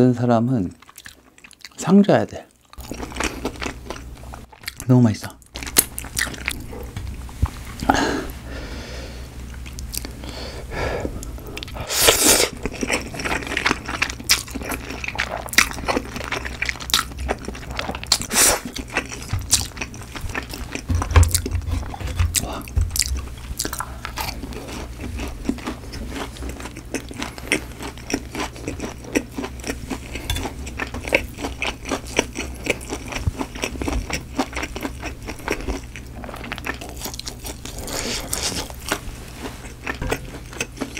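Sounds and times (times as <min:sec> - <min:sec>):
chewing and crunching food: 0:00.7 - 0:07.9, 0:09.5 - 0:10.3, 0:11.2 - 0:40.9.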